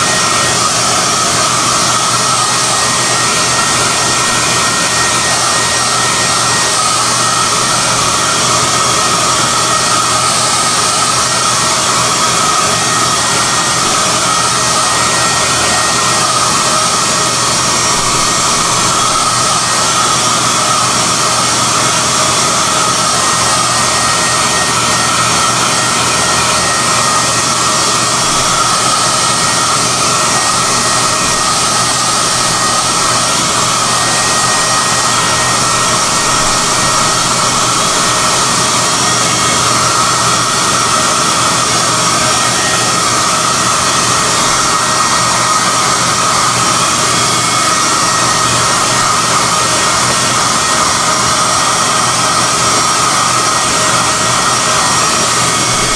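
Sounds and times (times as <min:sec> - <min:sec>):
hair dryer blowing air: 0:00.0 - 0:55.9.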